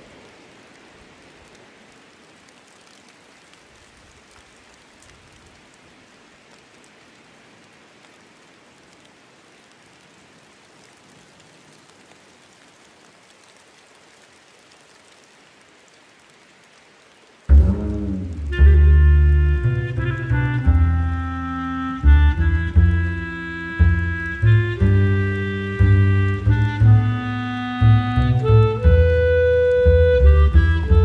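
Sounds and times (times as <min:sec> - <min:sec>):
soft rain pattering: 0:00.0 - 0:31.0.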